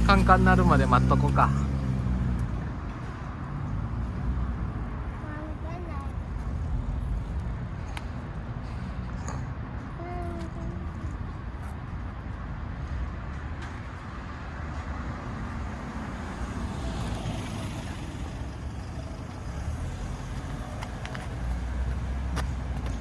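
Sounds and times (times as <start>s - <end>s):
motor vehicle passing: 0.0s - 23.0s
traffic rumble: 0.0s - 23.0s.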